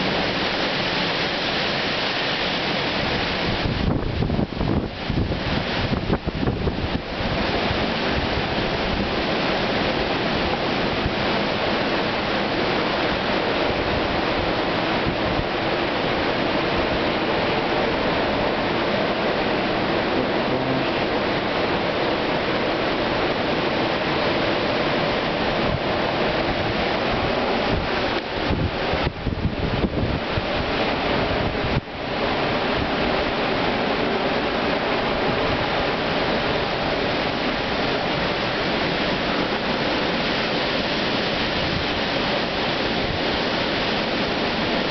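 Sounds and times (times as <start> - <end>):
hurricane wind rushing: 0.0 - 44.9
wind gusts buffeting microphone: 0.0 - 44.9.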